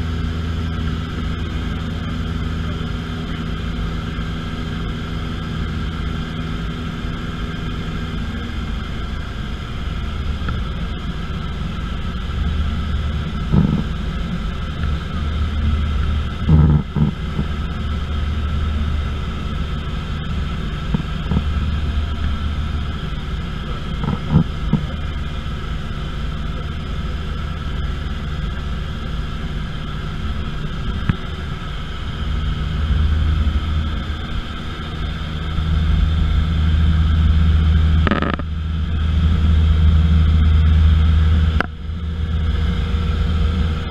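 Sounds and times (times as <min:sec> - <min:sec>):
airplane engine drone: 0:00.0 - 0:43.9.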